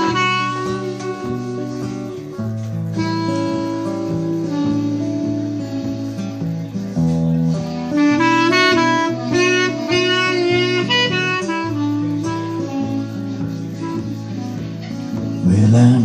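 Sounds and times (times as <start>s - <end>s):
clarinet melody: 0.0s - 16.0s
strummed acoustic guitar: 0.0s - 16.0s.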